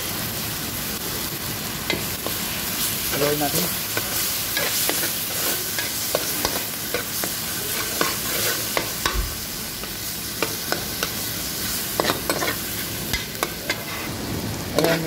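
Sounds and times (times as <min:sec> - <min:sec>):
food sizzling: 0:00.0 - 0:15.0.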